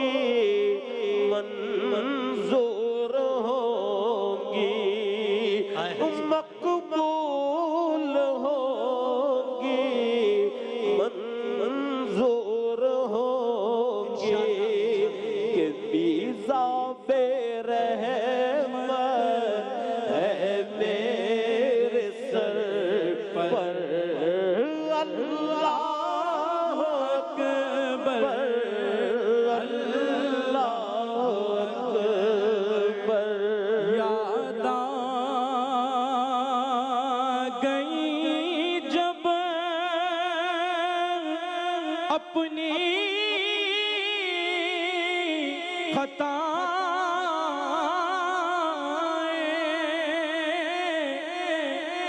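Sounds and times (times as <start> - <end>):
men singing with vibrato: 0.0 - 52.0.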